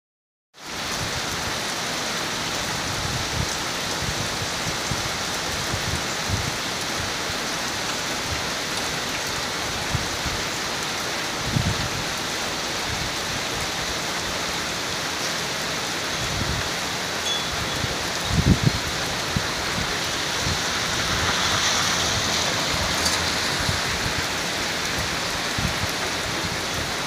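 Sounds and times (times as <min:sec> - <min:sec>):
rain falling on grass and gravel: 0:00.6 - 0:27.0.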